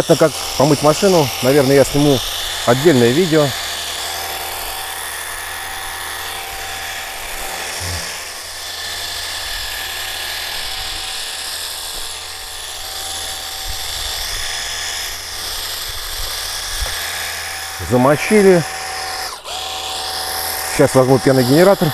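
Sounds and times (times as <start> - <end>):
pressure washer motor whining: 0.0 - 21.9.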